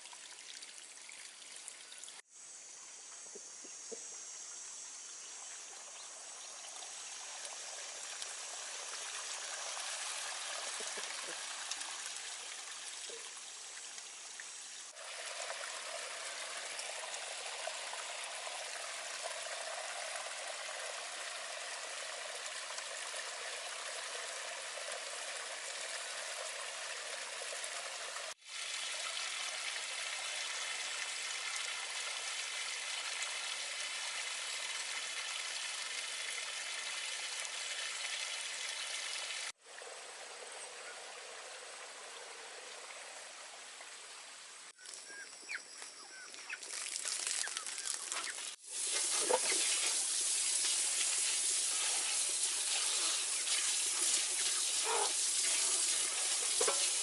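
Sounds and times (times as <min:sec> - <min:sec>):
water trickling and pouring: 0:00.0 - 0:02.2, 0:05.2 - 0:45.0, 0:46.1 - 0:57.0.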